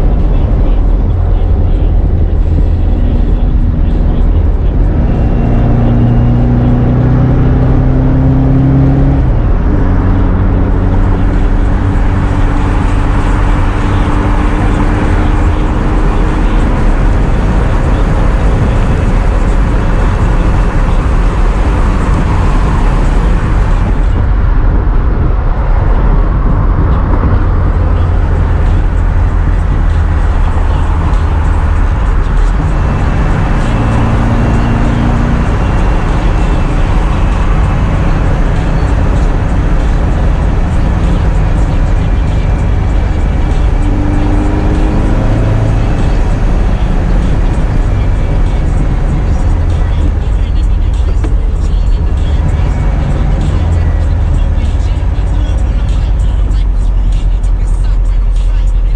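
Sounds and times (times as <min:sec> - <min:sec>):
car engine running loud: 0:00.0 - 0:58.9
road noise: 0:00.0 - 0:58.9.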